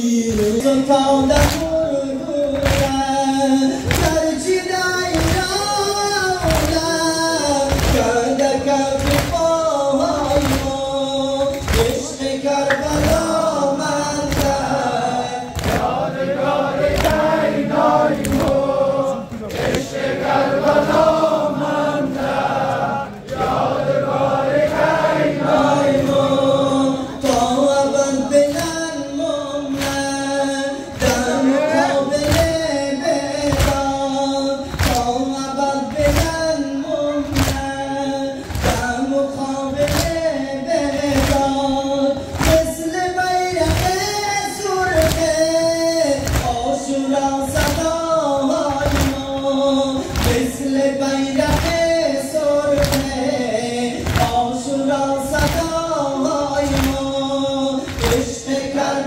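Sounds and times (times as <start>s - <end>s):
men chanting a lament: 0.0s - 59.0s
rhythmic chest-beating slaps: 0.0s - 59.0s.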